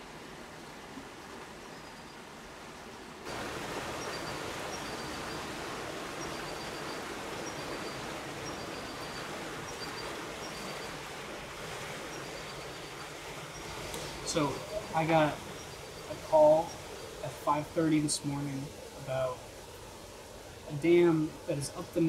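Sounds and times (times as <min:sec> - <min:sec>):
rushing river water: 0:00.0 - 0:22.0.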